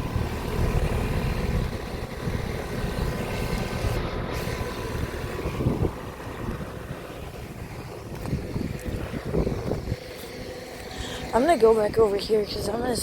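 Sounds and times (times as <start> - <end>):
air conditioner fan whooshing: 0.0 - 13.0
wind buffeting microphone: 0.0 - 13.0.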